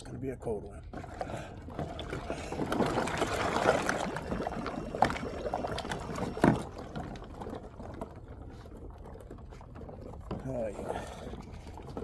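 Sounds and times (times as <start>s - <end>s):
water sloshing and splashing: 0.4s - 12.0s.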